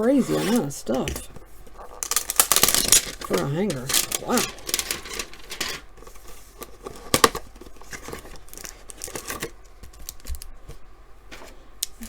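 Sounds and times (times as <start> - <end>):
packaging clicks and rustles: 0.0 - 12.0.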